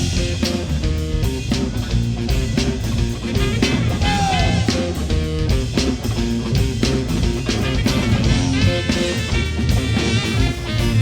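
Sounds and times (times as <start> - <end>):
bass guitar: 0.0 - 11.0
drum kit beat: 0.0 - 11.0
electric guitar: 0.0 - 11.0
rock band playing live: 0.0 - 11.0.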